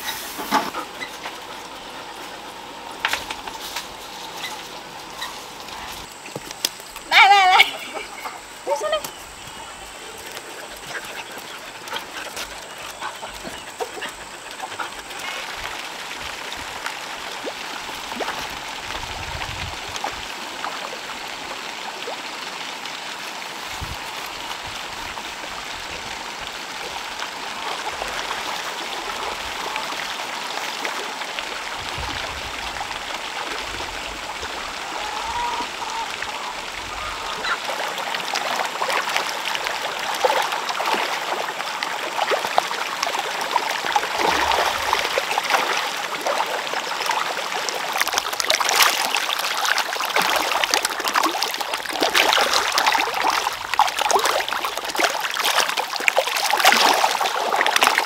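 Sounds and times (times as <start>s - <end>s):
running and splashing water: 0.0s - 58.0s.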